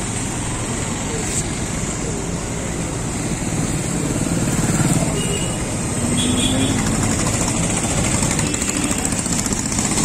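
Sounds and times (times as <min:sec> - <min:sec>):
vehicles passing: 0:00.0 - 0:10.0
wind and road noise: 0:00.0 - 0:10.0.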